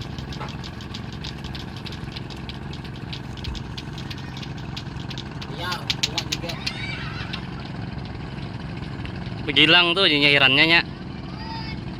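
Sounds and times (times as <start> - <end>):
boat engine running: 0.0 - 11.9.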